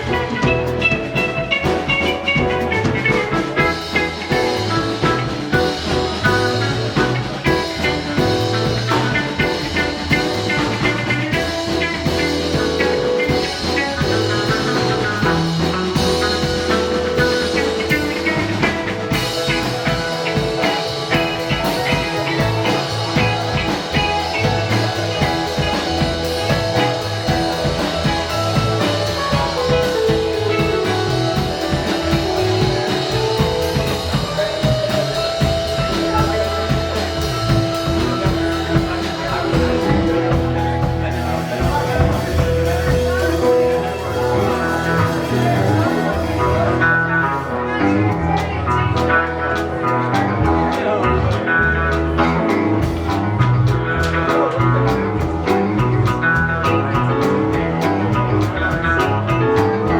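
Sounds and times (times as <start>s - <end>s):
bass guitar: 0.0s - 59.9s
drum kit beat: 0.0s - 59.9s
electric guitar: 0.0s - 59.9s.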